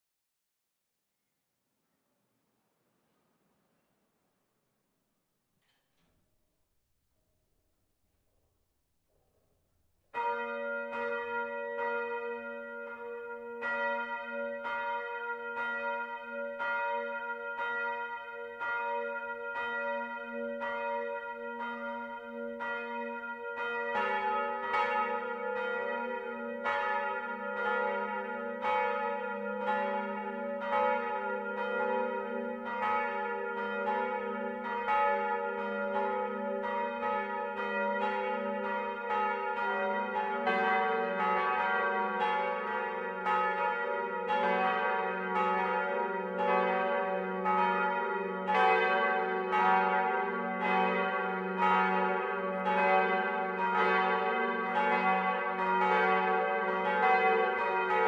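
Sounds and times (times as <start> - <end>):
church bell striking: 10.1 - 58.0
lower church bell ringing: 10.1 - 58.0.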